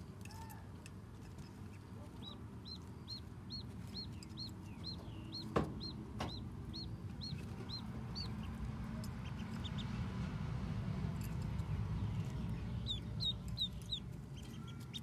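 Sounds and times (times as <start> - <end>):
low background hum: 0.0 - 15.0
duckling peeping: 1.4 - 10.3, 11.8 - 15.0.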